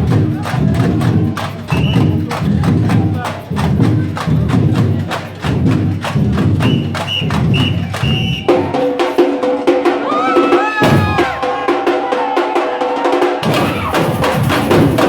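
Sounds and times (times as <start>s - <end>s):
loud music with percussion beat: 0.0s - 15.0s.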